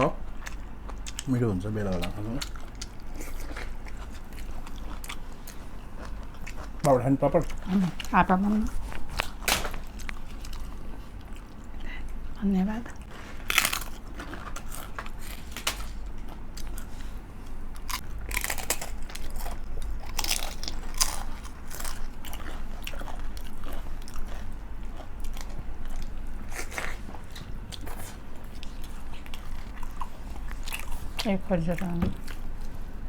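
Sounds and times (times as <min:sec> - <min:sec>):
chewing crunchy food: 0:00.0 - 0:33.0.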